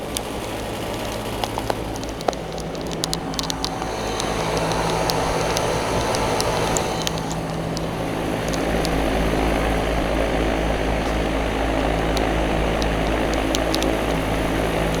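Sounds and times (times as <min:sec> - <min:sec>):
compressor hum: 0:00.0 - 0:15.0
fans whooshing: 0:00.0 - 0:15.0
low rumble: 0:01.6 - 0:15.0.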